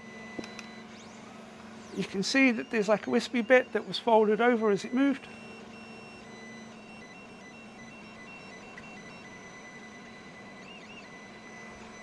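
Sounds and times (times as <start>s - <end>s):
steady hum: 0.0s - 12.0s
stepper motors whining: 0.0s - 12.0s.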